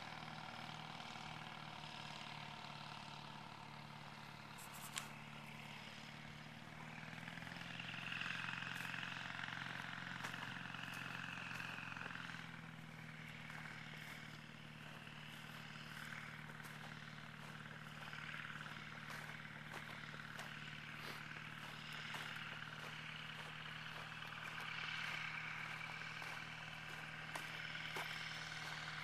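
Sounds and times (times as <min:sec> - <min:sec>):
light aircraft engine drone: 0:00.0 - 0:29.0.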